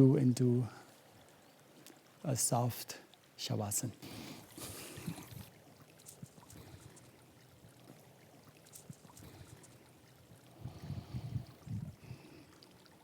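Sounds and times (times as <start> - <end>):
small stream flowing: 0.0 - 13.0.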